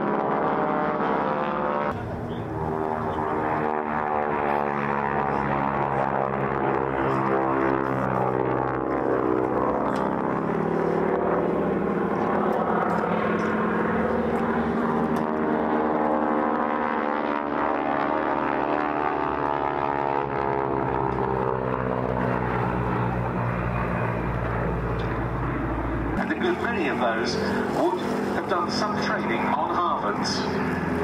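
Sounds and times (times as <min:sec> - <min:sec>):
propeller planes droning overhead: 0:00.0 - 0:31.0.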